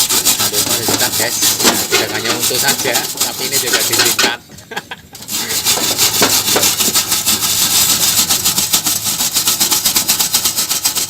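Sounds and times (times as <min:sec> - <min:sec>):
brush scrubbing metal: 0:00.0 - 0:04.4, 0:05.2 - 0:11.0.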